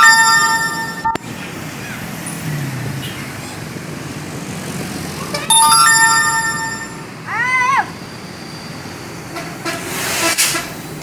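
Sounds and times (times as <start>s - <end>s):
street background noise: 0.0s - 11.0s.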